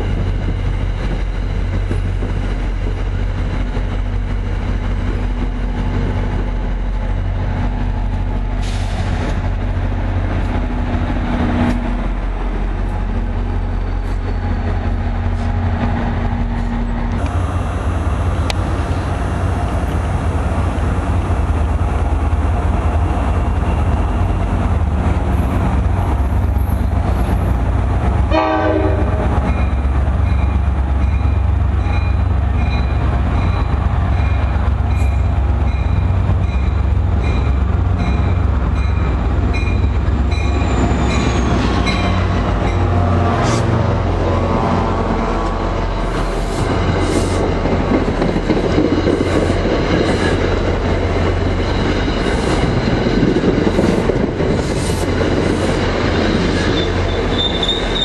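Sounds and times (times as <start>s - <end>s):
diesel locomotive rumble: 0.0s - 58.0s.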